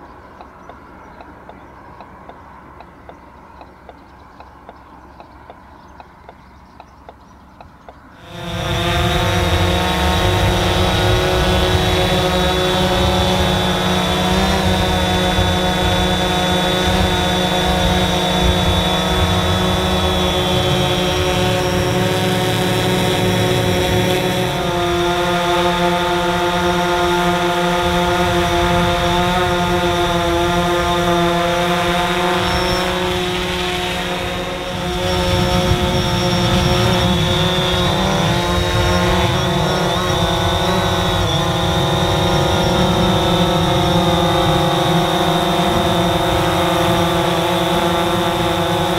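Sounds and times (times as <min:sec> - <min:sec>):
drone motors buzzing: 0:08.1 - 0:48.9.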